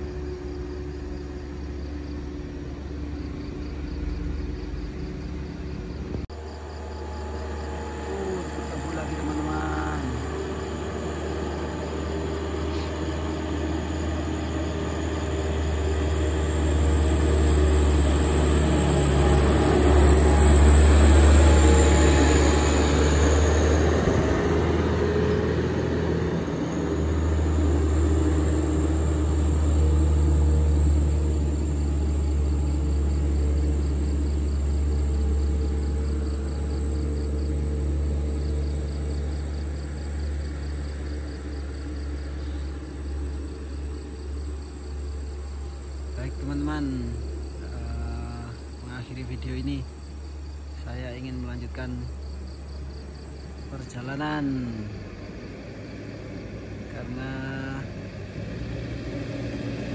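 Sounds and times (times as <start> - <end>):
heavy truck passing: 0.0 - 59.9.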